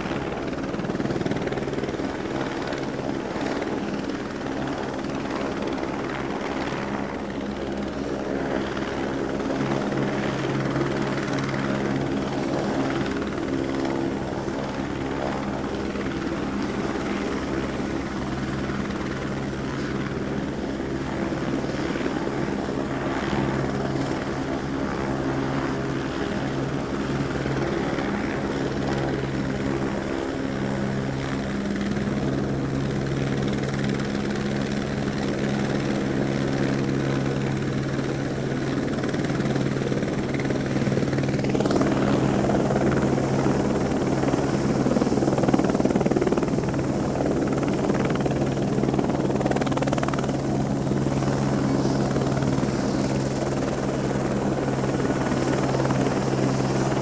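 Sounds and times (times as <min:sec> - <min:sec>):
helicopter rotor beat: 0:00.0 - 0:57.0.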